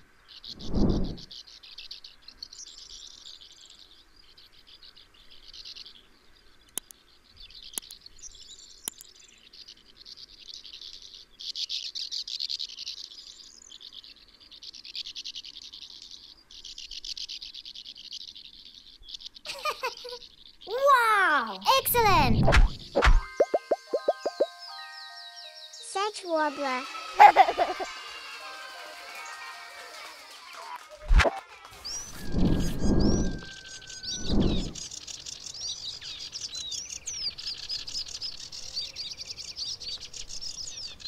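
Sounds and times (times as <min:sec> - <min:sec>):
birds twittering: 0:00.0 - 0:28.4, 0:31.8 - 0:41.0.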